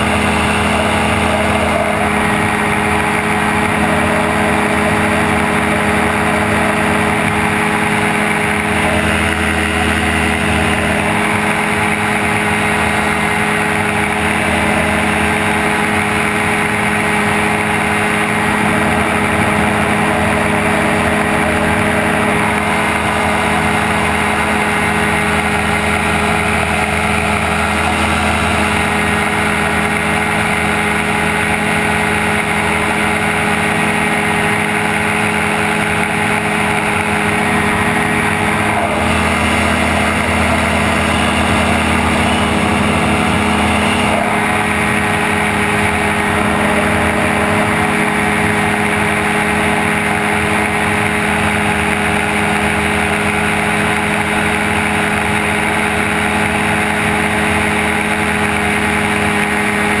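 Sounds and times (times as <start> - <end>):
gyrocopter engine droning: 0.0 - 60.0.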